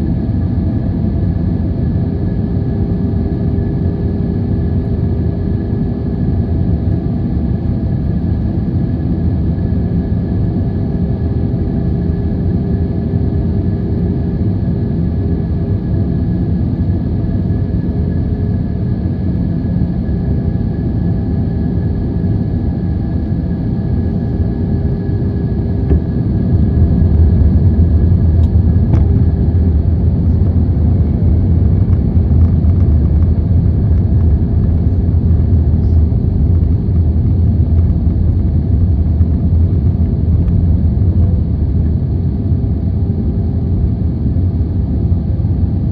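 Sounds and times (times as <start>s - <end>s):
jet engine rumble: 0.0s - 45.9s.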